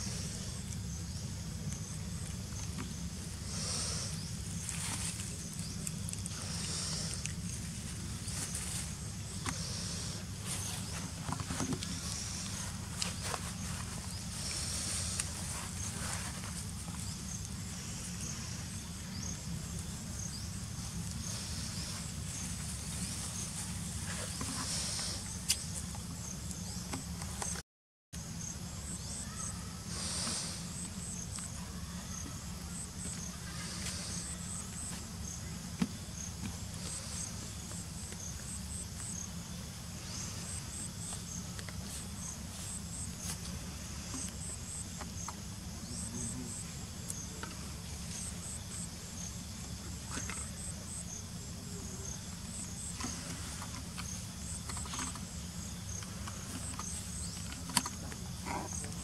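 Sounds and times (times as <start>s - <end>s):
insects chirping: 0.0s - 27.6s, 28.2s - 59.0s
steady low hum: 0.0s - 27.6s, 28.2s - 59.0s.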